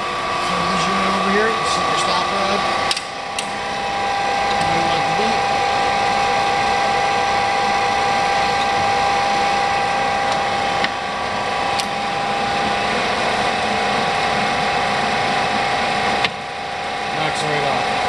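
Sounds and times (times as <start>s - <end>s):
lathe machine whine: 0.0s - 18.0s.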